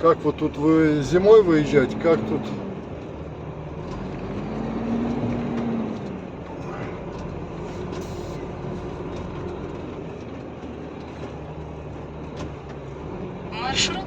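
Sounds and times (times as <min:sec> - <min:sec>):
truck engine running: 0:00.0 - 0:14.0
tyre and road noise: 0:00.0 - 0:14.0.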